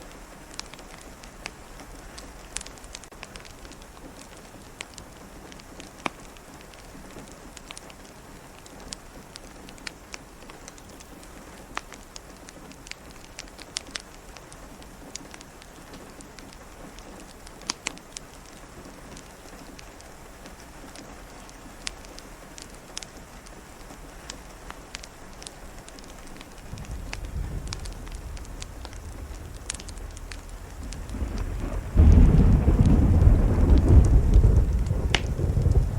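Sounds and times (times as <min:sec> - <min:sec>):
fireplace crackling: 0:00.0 - 0:35.9
steady rain: 0:00.0 - 0:35.9.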